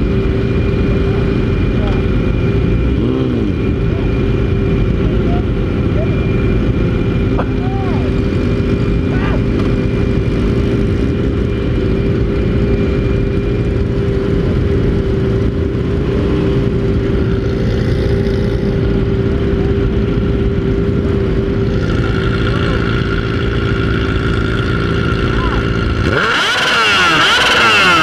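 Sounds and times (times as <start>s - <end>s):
motorcycles idling: 0.0s - 28.0s.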